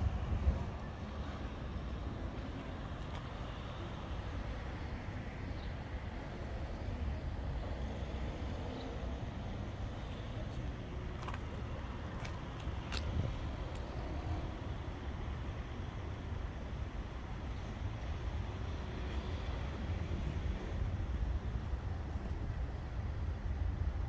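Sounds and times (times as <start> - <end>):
cars moving on busy road: 0.0 - 24.0.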